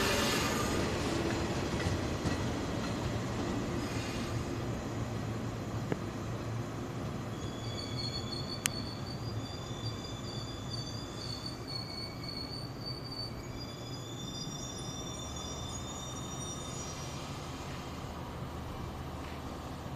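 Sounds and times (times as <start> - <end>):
train brakes squealing: 0.0 - 5.0, 7.2 - 18.2
low train rumble: 0.0 - 19.9.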